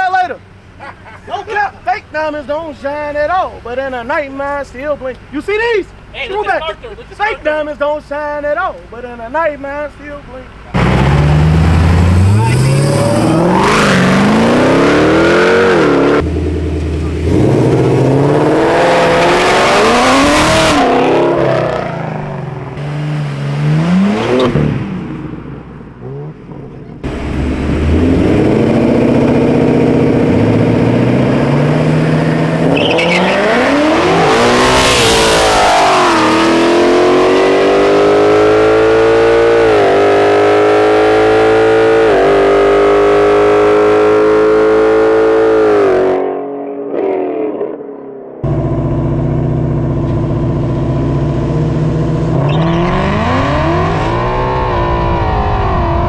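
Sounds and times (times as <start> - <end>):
car engines revving: 0.0 - 56.0
cars accelerating hard: 10.7 - 56.0.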